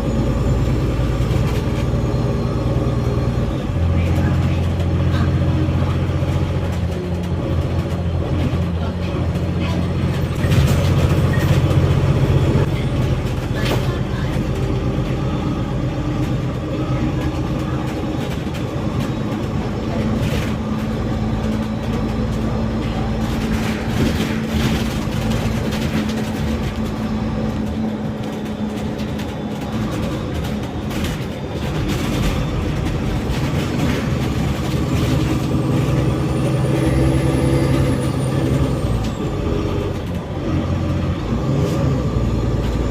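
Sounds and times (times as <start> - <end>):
bus engine hum: 0.0 - 42.9
road noise: 0.0 - 42.9.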